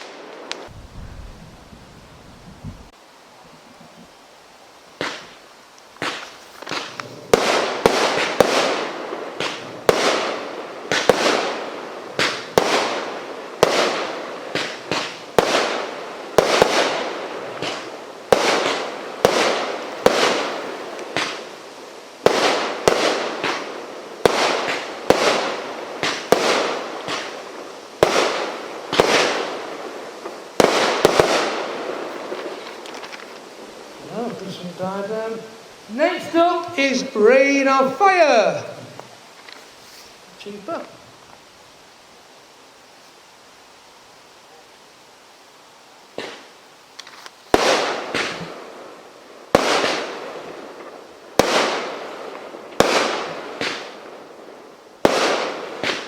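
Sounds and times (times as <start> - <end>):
fireworks bangs: 5.0 - 41.0, 46.1 - 56.0.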